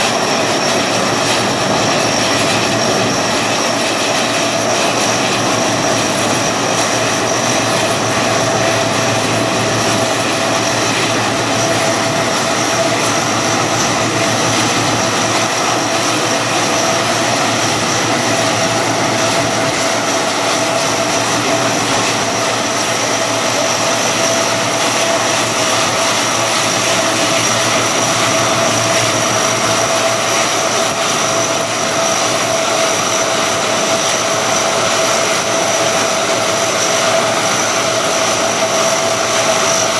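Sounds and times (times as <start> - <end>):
engine high whine: 0.0 - 39.9
turboprop engines droning: 0.0 - 39.9.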